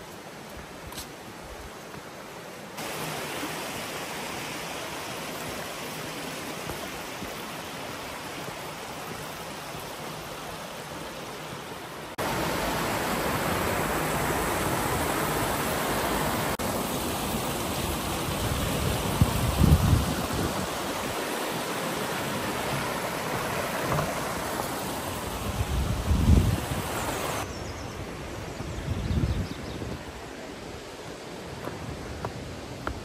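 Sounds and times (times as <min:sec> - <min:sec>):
stream rushing over stones: 0:00.0 - 0:29.2, 0:29.8 - 0:33.0.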